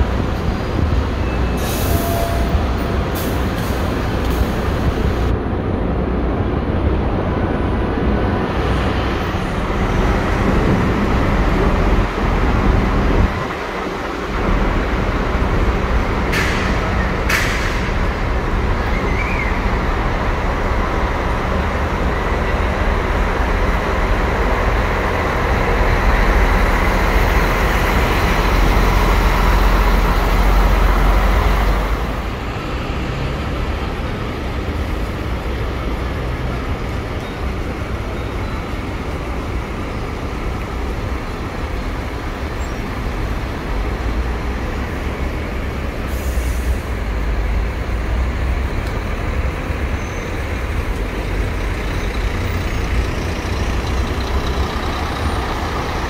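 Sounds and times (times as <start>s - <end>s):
bus diesel engines rumbling: 0.0s - 56.0s.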